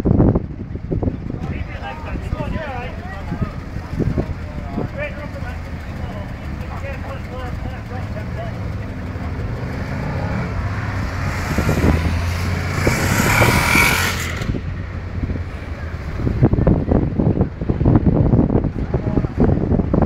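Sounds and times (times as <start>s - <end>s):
vehicles passing close by: 0.0s - 20.0s
wind buffeting microphone: 0.0s - 20.0s.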